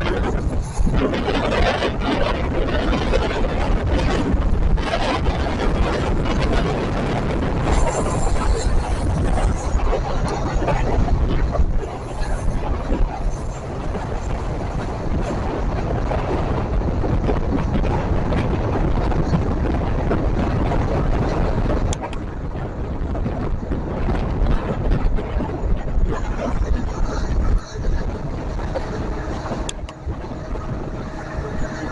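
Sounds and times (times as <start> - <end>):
train wheels rumbling on track: 0.0 - 31.9
wind buffeting microphone: 0.0 - 31.9.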